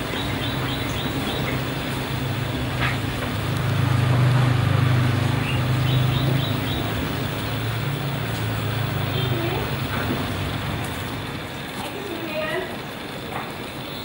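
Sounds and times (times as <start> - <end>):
low motor hum: 0.0 - 11.9.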